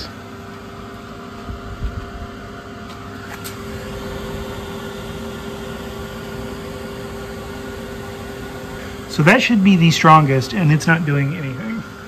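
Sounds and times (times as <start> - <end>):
faint fan tones: 0.0 - 12.0
laser engraver mechanical hum: 0.0 - 12.0.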